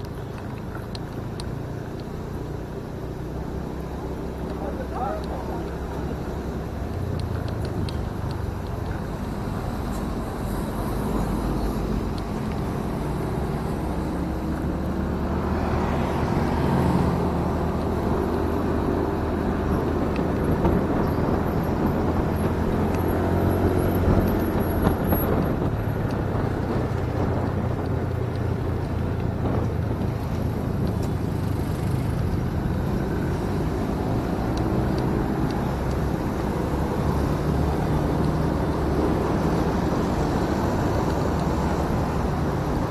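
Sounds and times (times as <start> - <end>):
motorcycle engine riding: 0.0 - 42.9
road and wind noise: 0.0 - 42.9.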